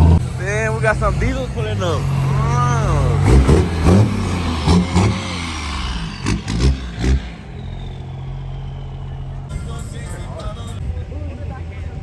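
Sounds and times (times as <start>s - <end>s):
diesel truck engines revving: 0.0s - 12.0s.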